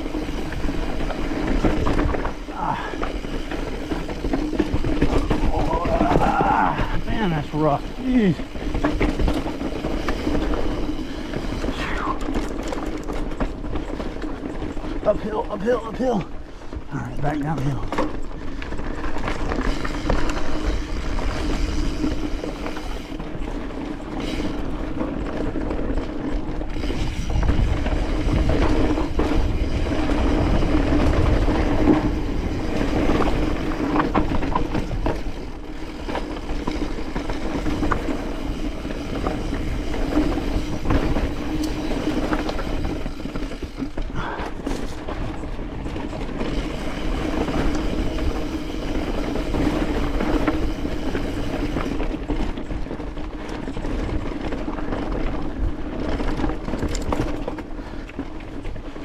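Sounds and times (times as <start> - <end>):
bike frame and chain rattling: 0.0 - 59.0
bike tyres rumbling over rock: 0.0 - 59.0.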